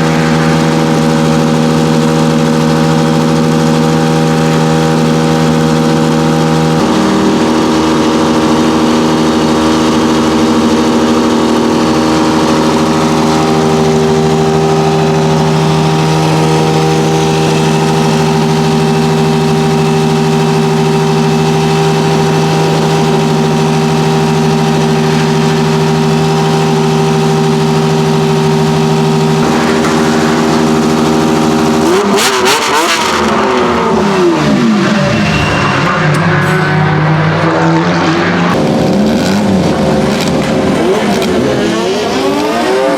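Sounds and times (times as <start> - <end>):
racing car engine revving: 0.0 - 42.9.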